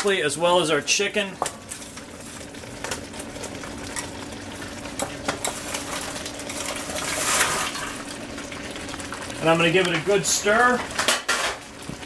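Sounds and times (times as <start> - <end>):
sauce boiling and sizzling in a wok: 0.0 - 12.0.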